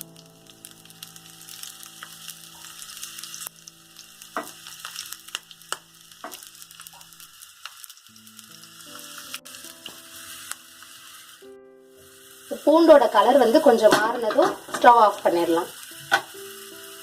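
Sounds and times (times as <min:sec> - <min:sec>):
garlic sizzling in oil: 0:00.0 - 0:17.0.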